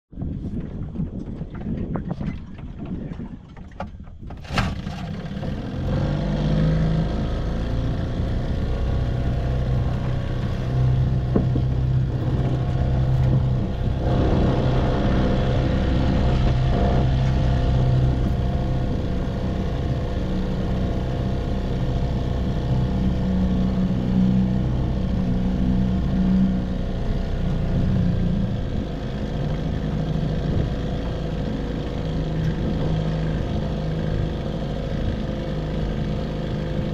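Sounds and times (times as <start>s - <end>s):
outboard motor running: 0.2s - 36.9s.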